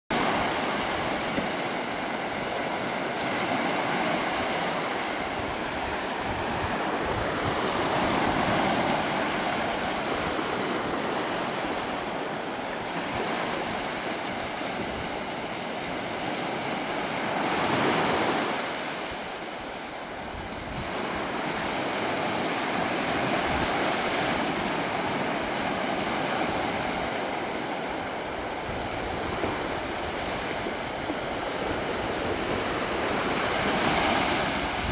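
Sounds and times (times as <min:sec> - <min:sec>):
ocean surf washing ashore: 0:00.1 - 0:34.9.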